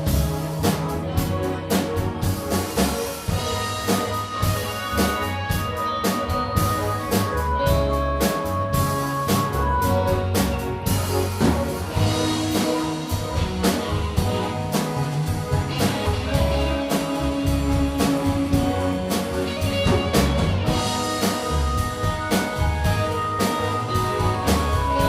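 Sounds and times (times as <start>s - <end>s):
drum kit beat: 0.0s - 25.0s
rock band instrumental: 0.0s - 25.0s.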